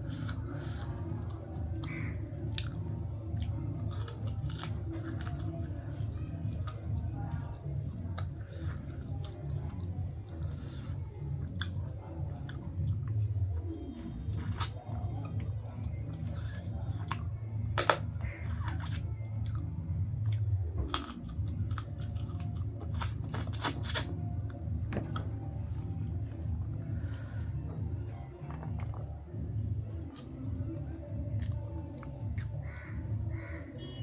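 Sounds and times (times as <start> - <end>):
chewing with crunches: 0.0 - 34.0
low steady hum: 0.0 - 34.0.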